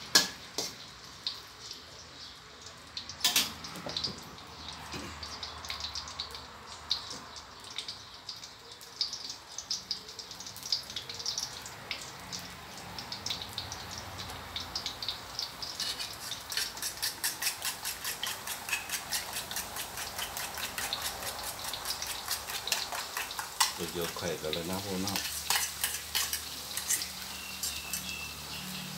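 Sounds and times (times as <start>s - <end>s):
garlic frying in oil: 0.0s - 28.9s.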